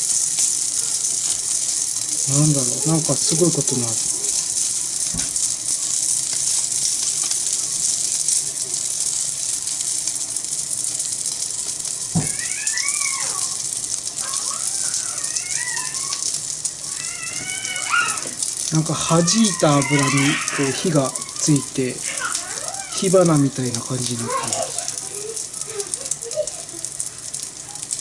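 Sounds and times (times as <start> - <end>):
food sizzling on iron griddle: 0.0 - 28.0.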